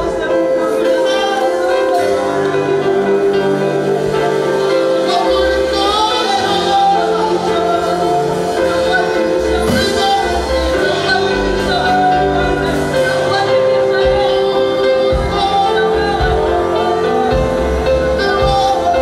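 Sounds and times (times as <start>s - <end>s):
instrumental accompaniment: 0.0s - 19.0s
worship song singing: 0.0s - 19.0s.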